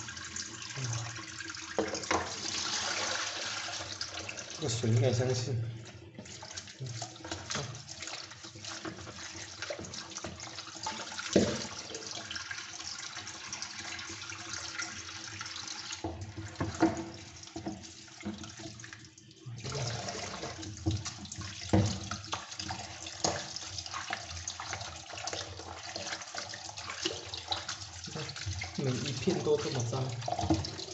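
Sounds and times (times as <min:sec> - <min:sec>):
water running and splashing: 0:00.0 - 0:30.9.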